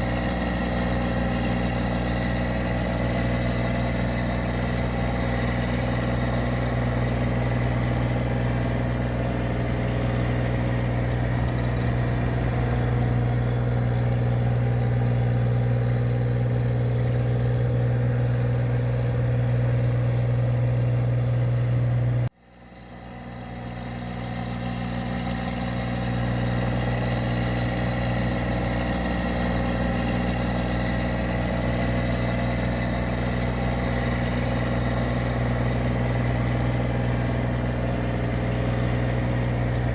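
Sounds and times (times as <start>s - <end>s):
machine engine droning: 0.0s - 39.9s.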